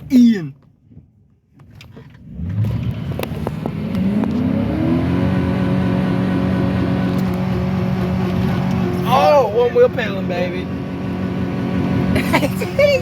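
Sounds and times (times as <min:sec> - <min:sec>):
car engine revving hard: 0:02.2 - 0:13.0.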